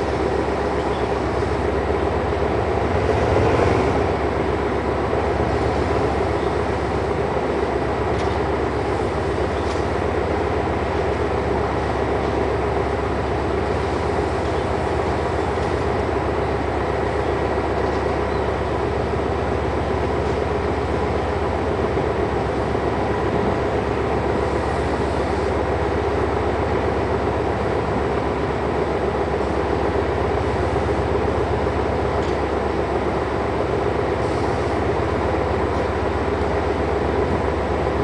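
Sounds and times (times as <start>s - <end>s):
train rumbling along track: 0.0s - 38.0s.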